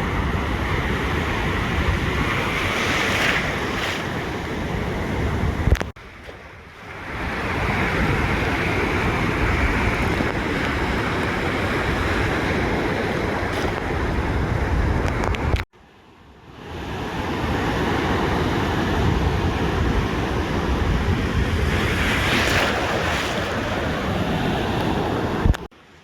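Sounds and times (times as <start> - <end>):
wind buffeting microphone: 0.0 - 15.7, 18.2 - 25.7
ocean surf washing on beach: 0.0 - 26.0.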